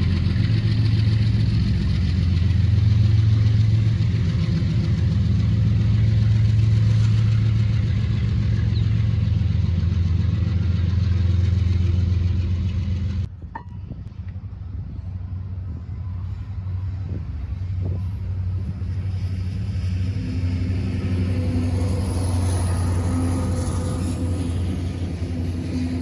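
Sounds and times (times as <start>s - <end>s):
diesel locomotive engine humming: 0.0s - 26.0s.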